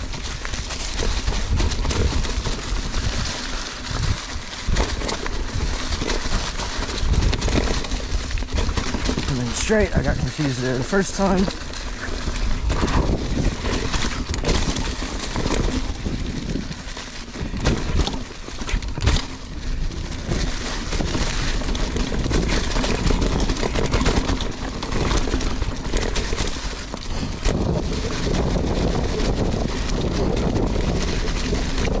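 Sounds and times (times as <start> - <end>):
bike knocking and rattling: 0.0 - 32.0
tyres rumbling on dirt: 0.0 - 32.0
wind buffeting microphone: 0.0 - 32.0.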